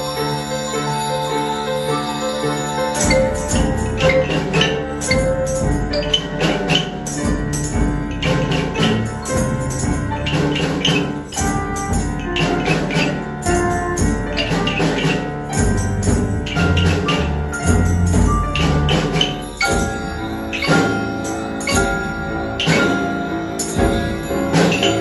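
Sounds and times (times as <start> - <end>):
melodic pitched accompaniment: 0.0 - 25.0
tambourines and bells jingling: 0.0 - 25.0
rhythm sticks clicking: 2.9 - 25.0.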